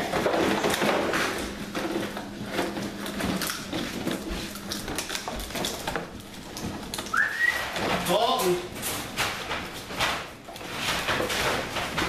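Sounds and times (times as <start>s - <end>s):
plastic bottles crinkling and clattering: 0.0s - 12.0s.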